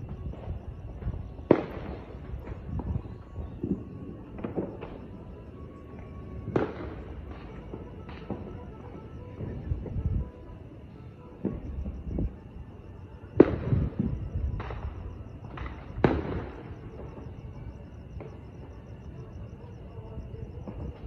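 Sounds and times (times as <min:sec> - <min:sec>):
distant fireworks bangs: 0:00.0 - 0:10.3, 0:10.9 - 0:12.4, 0:13.2 - 0:21.0.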